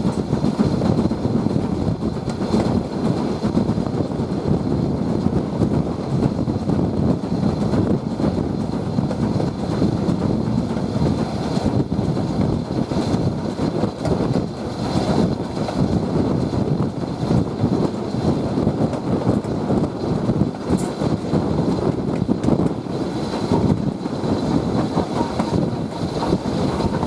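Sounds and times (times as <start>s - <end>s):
steam locomotive and wheels rumbling: 0.0s - 27.0s
wind buffeting microphone: 0.0s - 27.0s.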